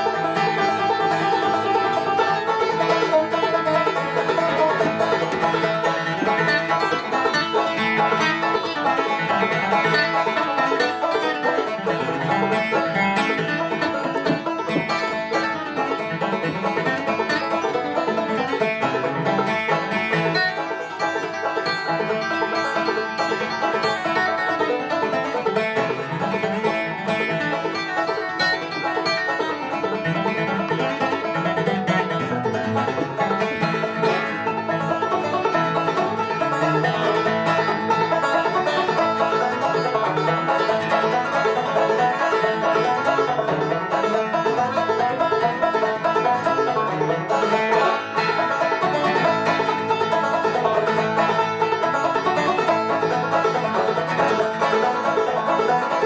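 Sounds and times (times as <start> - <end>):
acoustic guitar rhythm: 0.0 - 51.7
banjo playing tune: 0.0 - 56.0.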